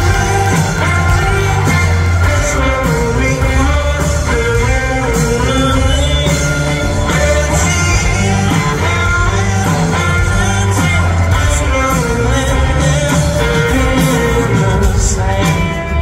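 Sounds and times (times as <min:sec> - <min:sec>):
live blues rock band: 0:00.0 - 0:16.0
man singing: 0:00.0 - 0:16.0.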